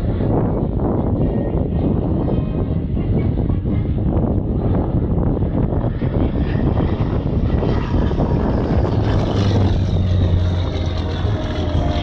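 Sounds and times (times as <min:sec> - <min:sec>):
plane engine droning overhead: 0:00.0 - 0:12.0.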